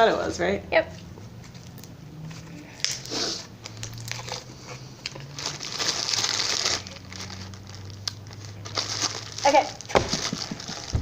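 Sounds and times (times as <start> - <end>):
crinkling and rustling: 1.0 - 11.0.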